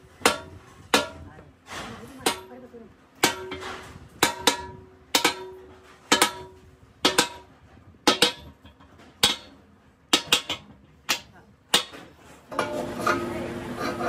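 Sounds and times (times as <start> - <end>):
sledgehammer clanging on steel: 0.0 - 14.0.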